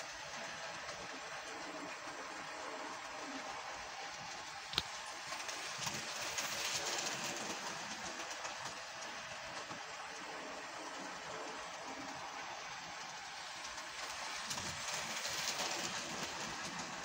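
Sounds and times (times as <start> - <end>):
model train wheels rattling on track: 0.0 - 17.0.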